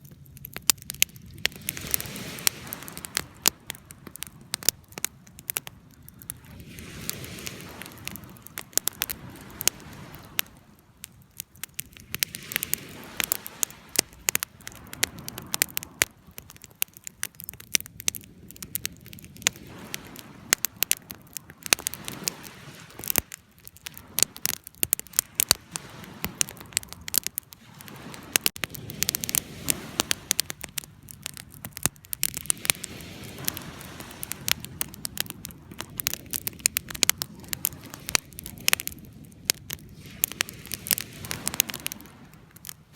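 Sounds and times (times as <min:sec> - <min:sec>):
wood fire crackling: 0:00.0 - 0:42.9
flames rushing: 0:00.6 - 0:42.9.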